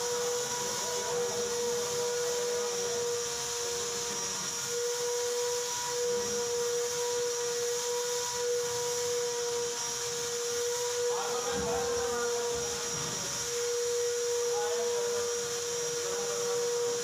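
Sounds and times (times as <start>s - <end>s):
machine hum with steady tone: 0.0s - 17.0s.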